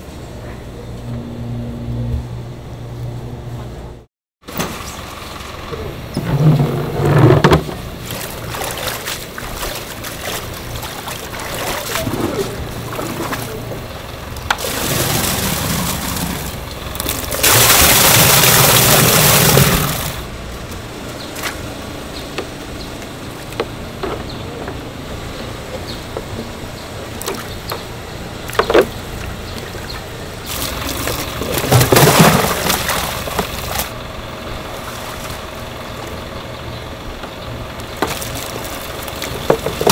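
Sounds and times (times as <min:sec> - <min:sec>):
water sloshing and splashing: 0:04.4 - 0:34.0, 0:34.6 - 0:36.2, 0:37.3 - 0:39.9.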